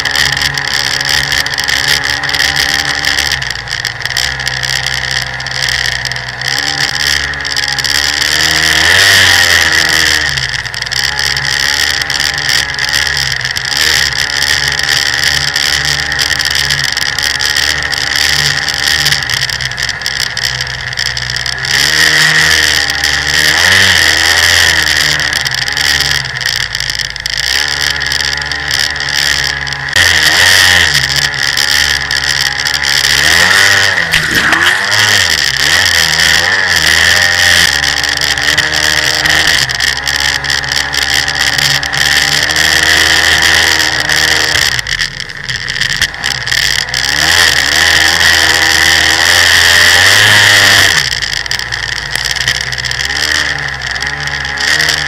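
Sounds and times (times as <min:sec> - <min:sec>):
jet ski engine revving: 0:00.0 - 0:55.0.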